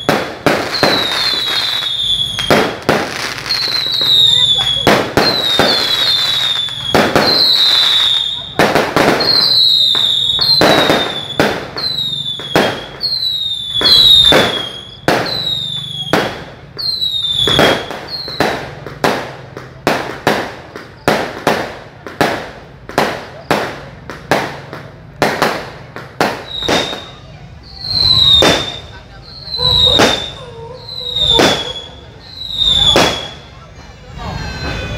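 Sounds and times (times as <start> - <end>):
falling firework whistles: 0.0 - 24.6, 25.2 - 34.9
firework bangs: 0.0 - 34.9.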